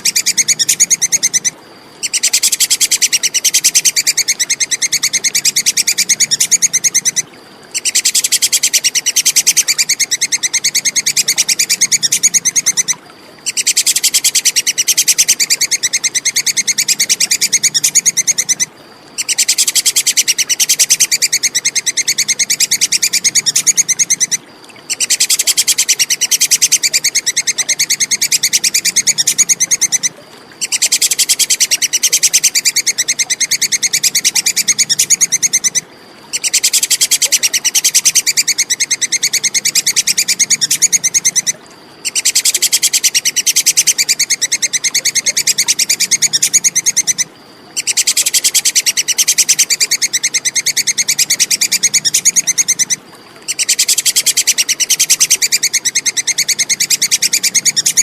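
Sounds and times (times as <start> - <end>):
squirrel chattering: 0.0 - 58.0.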